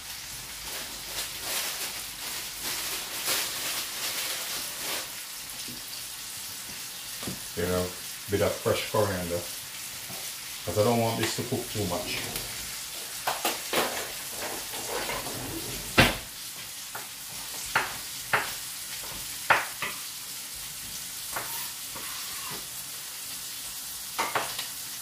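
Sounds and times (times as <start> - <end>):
fish sizzling in a pan: 0.0 - 15.2, 16.0 - 25.0.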